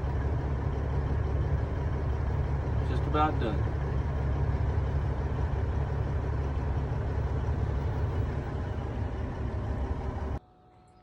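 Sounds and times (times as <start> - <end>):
combine harvester engine drone: 0.0 - 10.4.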